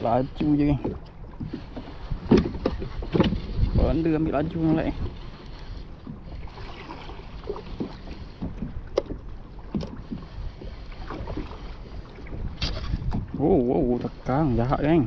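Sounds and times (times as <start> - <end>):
water washing against kayak hull: 0.0 - 15.0
wind buffeting microphone: 0.0 - 15.0.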